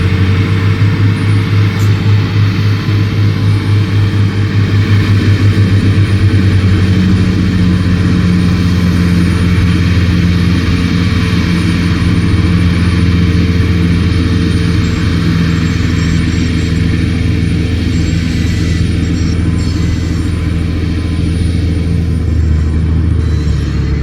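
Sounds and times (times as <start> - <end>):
heavy diesel engine throbbing: 0.0 - 24.0.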